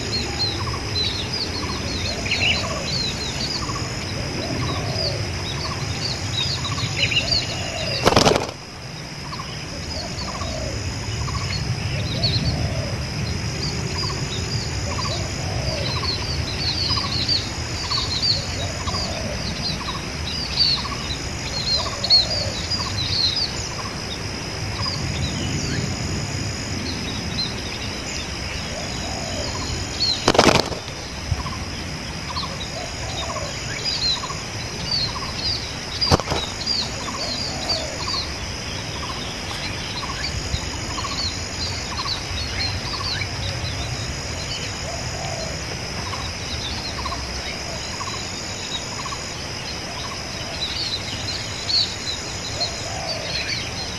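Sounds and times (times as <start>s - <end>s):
doves cooing: 0.0s - 53.9s
high insect drone: 0.0s - 53.9s
small birds chirping: 0.0s - 53.9s.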